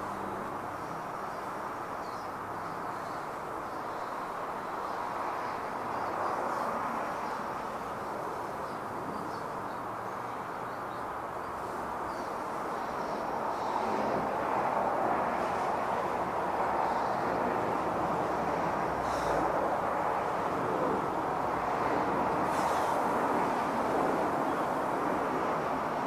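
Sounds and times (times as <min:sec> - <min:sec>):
road traffic hum: 0:00.0 - 0:26.0
vehicles passing: 0:00.0 - 0:26.0.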